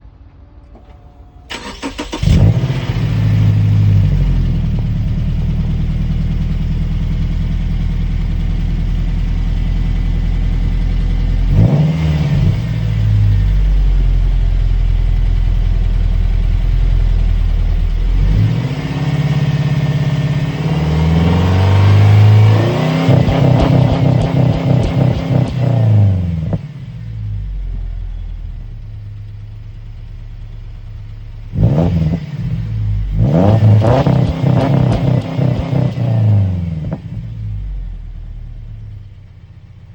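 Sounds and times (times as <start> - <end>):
car engine starting and revving: 0.7 - 39.2.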